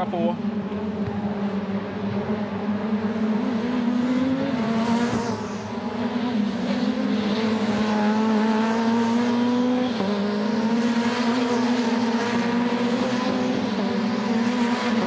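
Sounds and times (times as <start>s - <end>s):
race cars at high revs: 0.0s - 15.0s.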